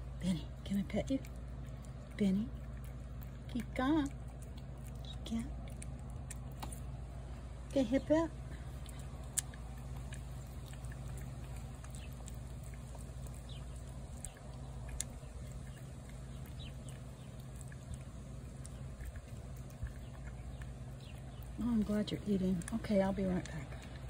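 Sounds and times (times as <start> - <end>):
cat chewing food: 0.0 - 24.0
low background hum: 0.0 - 24.0.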